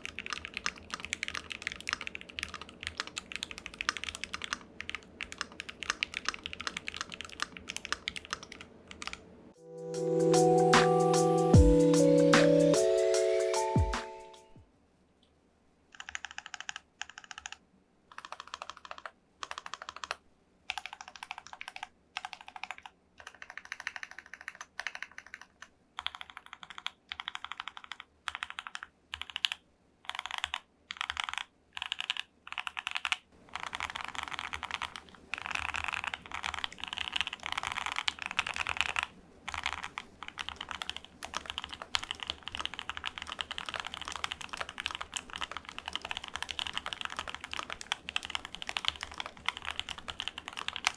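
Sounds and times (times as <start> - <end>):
mechanical keyboard typing: 0.0 - 9.2, 15.9 - 50.9.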